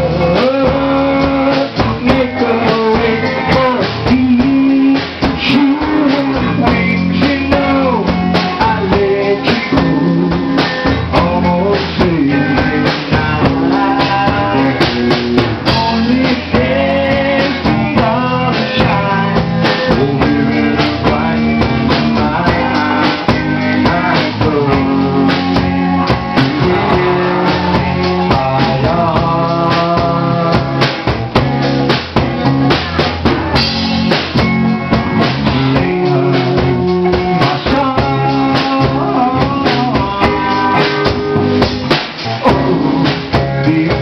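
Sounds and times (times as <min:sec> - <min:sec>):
drum kit beat: 0:00.0 - 0:44.0
held guitar and keyboard notes: 0:00.0 - 0:44.0.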